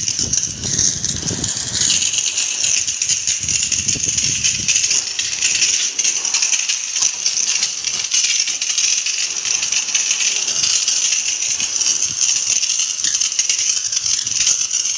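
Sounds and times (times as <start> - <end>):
pressure washer water jet hissing: 0.0 - 14.9.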